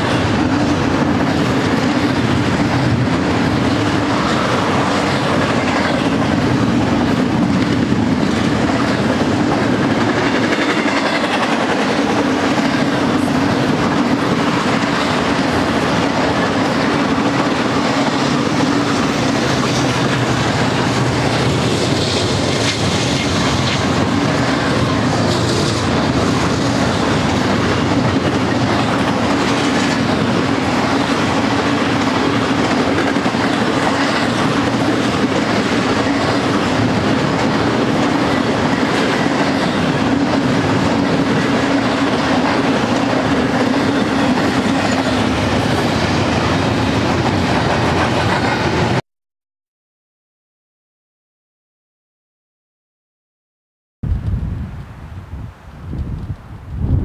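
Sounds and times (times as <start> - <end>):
steel wheels running on rails: 0.0 - 49.0.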